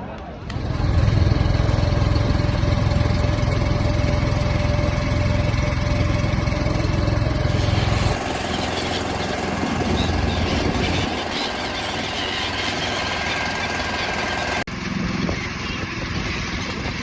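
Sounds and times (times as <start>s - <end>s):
small engine chugging: 0.5s - 17.0s.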